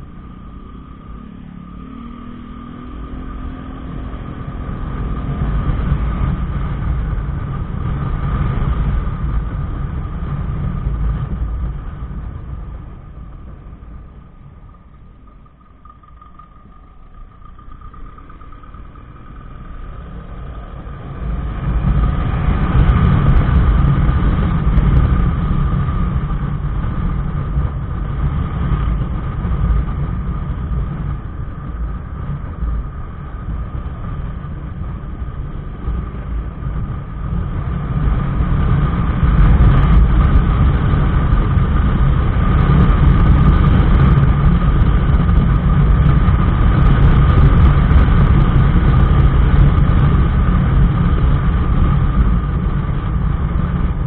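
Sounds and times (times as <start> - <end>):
motorcycle engine: 0.0 - 54.0
thin steady whine: 0.0 - 54.0
wind and road rumble: 0.0 - 54.0.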